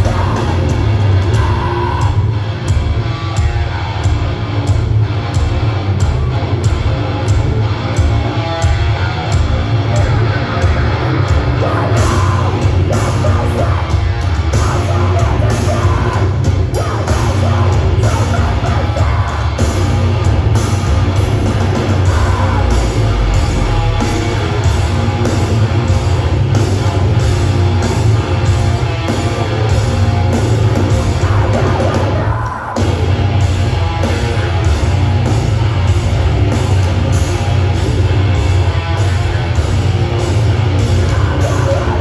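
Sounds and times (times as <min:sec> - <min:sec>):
live heavy rock band: 0:00.0 - 0:42.0.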